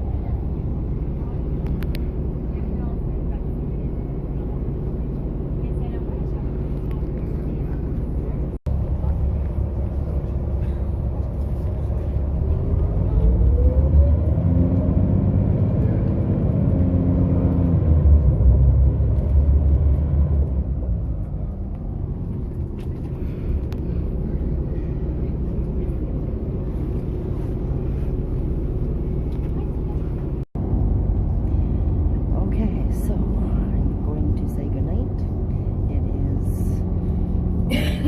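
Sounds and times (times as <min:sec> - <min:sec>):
road vehicle engines rumbling: 0:00.0 - 0:38.0.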